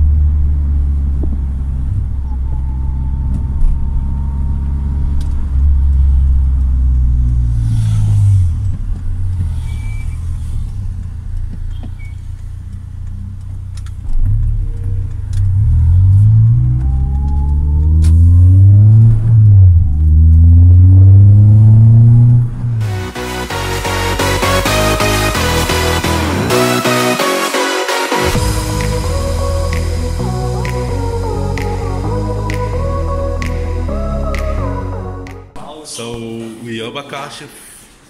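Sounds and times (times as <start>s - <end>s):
car engine accelerating: 0.0s - 35.6s.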